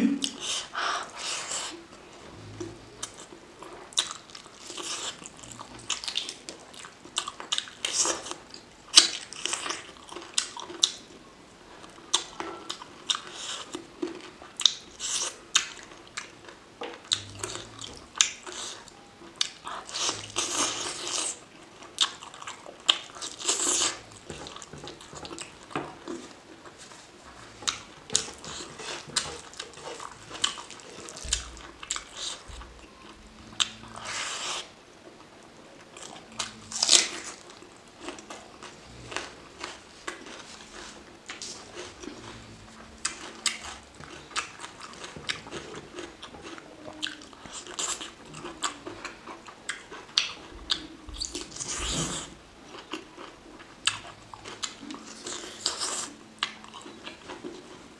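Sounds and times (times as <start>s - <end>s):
wet chewing and lip smacking: 2.6s - 11.2s, 11.8s - 34.7s, 35.8s - 57.9s.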